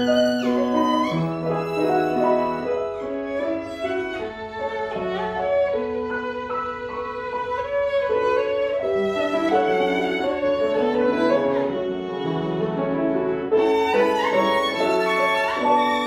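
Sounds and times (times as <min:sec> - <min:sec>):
piano accompaniment: 0:00.0 - 0:16.0
violin melody: 0:00.0 - 0:16.0.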